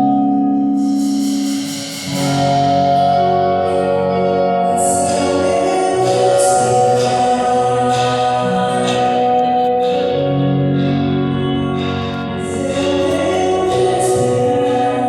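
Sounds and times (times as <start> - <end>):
sustained layered chords: 0.0 - 15.0.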